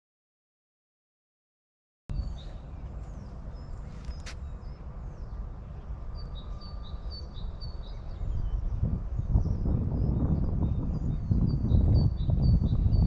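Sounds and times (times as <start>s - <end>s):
low outdoor rumble: 2.1s - 13.0s
small birds chirping: 2.1s - 13.0s.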